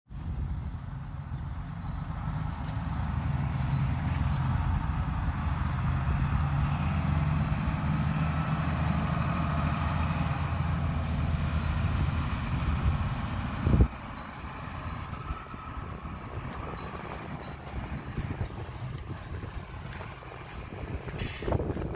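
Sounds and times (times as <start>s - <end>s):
heavy diesel engine running: 0.1s - 21.9s.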